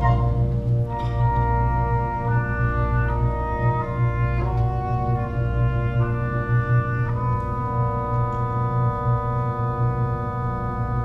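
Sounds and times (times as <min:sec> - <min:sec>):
wind band playing sustained chords: 0:00.0 - 0:11.0.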